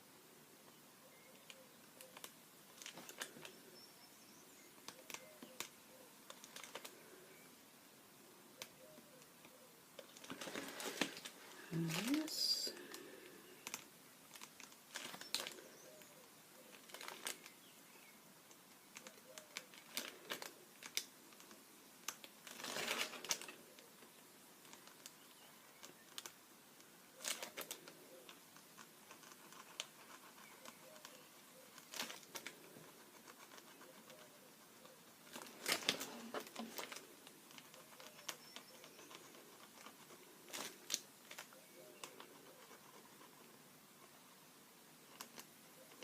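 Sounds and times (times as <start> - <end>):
longer rustle: 0.0 - 46.0.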